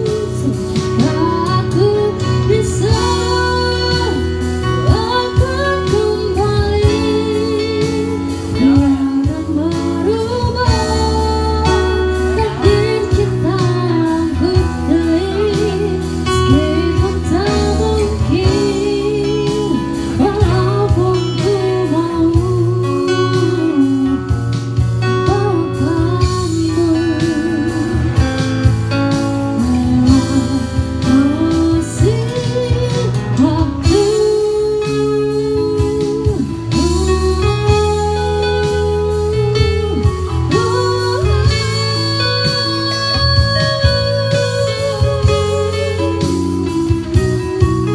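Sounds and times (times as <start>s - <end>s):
guitars playing: 0.0s - 47.9s
woman singing into microphone: 0.0s - 47.9s.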